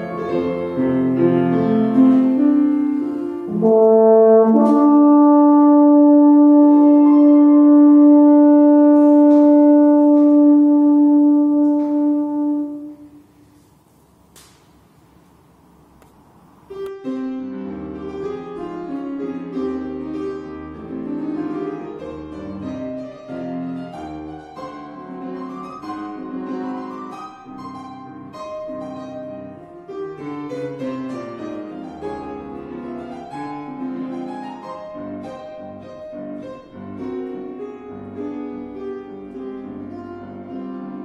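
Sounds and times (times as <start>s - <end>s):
grand piano playing: 0.0s - 14.3s, 15.1s - 41.0s.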